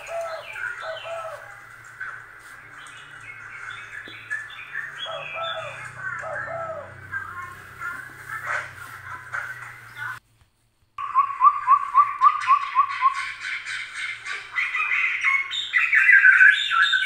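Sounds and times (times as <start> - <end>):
animal chirping and cooing: 0.0 - 10.2, 11.1 - 17.0.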